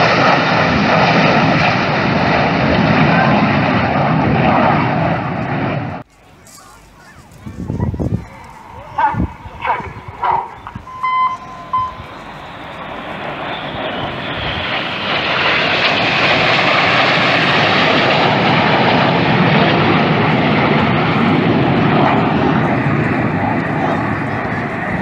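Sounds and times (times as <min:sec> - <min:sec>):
jet formation passing overhead: 0:00.0 - 0:25.0.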